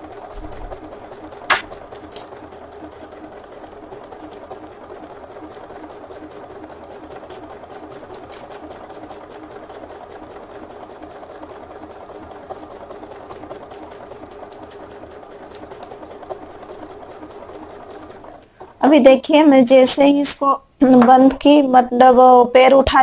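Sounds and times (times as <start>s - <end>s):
sewing machine motor: 0.0s - 19.4s
fast needle ticking: 0.0s - 20.5s.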